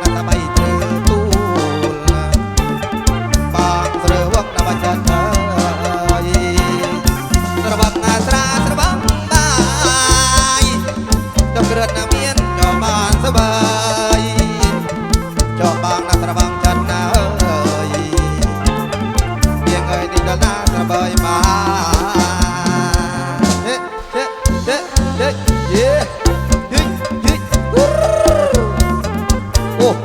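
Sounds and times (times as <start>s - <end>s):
fast drum beat: 0.0s - 30.0s
folk band playing: 0.0s - 30.0s.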